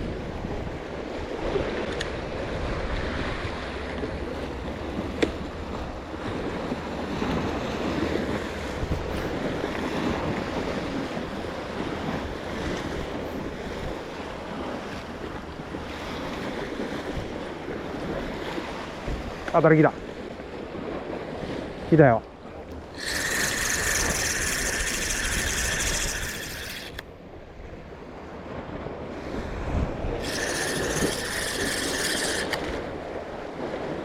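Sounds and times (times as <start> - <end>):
sea waves on rocky shore: 0.0 - 34.0
wind buffeting microphone: 0.0 - 34.0.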